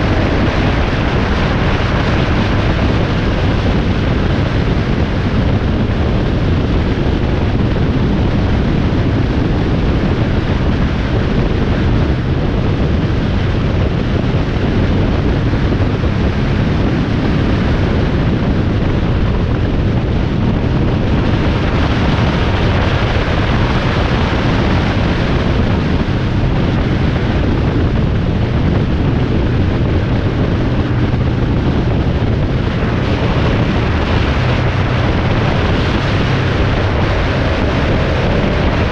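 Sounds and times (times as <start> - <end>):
vehicle road noise: 0.0 - 38.9
wind across microphone: 0.0 - 38.9.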